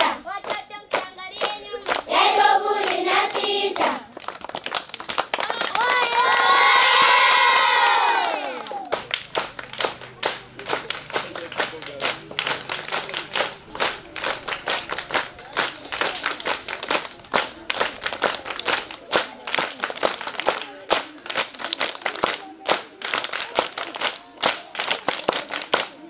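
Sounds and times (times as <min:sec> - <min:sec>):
children clapping in rhythm: 0:00.0 - 0:26.0.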